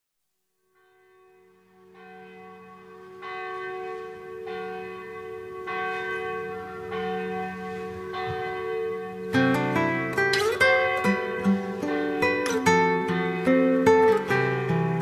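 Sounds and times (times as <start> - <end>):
church bell tolling: 0.6 - 15.0.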